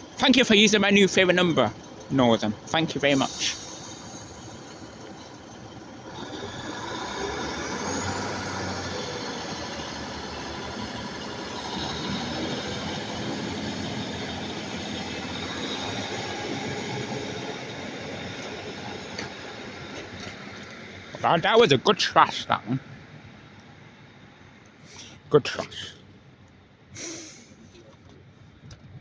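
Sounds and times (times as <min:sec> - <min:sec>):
diesel train engines under full power: 0:00.0 - 0:29.0.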